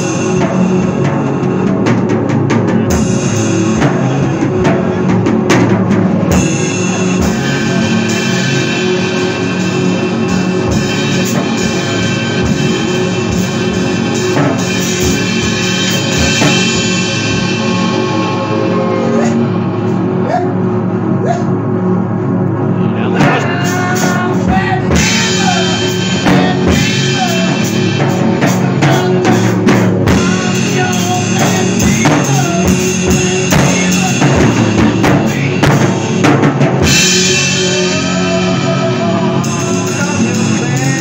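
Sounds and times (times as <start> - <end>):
drum hits: 0.0 - 20.3, 23.2 - 41.0
rock band playing: 0.0 - 41.0.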